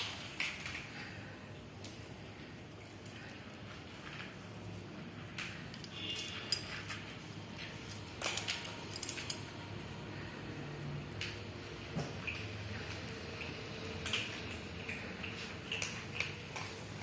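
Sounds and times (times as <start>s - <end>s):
cats crunching dry kibble: 0.0s - 8.9s, 9.5s - 17.0s.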